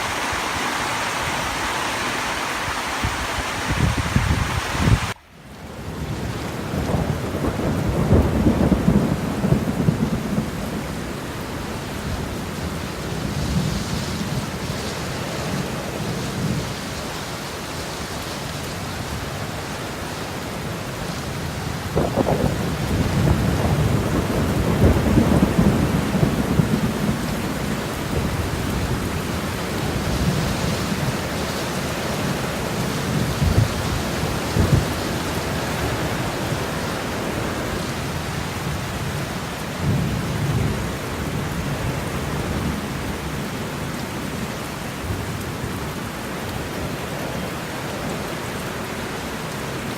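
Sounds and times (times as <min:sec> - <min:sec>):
water rushing: 0:00.0 - 0:05.5, 0:13.8 - 0:49.9.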